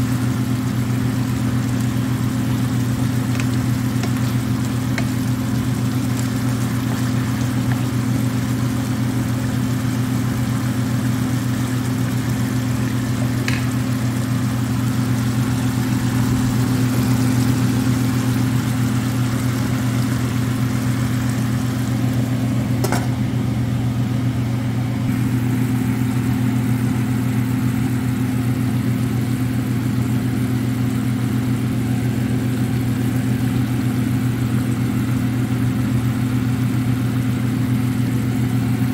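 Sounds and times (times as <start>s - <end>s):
food simmering in a frying pan: 0.0s - 24.3s, 25.0s - 38.9s
low mechanical hum: 0.0s - 38.9s.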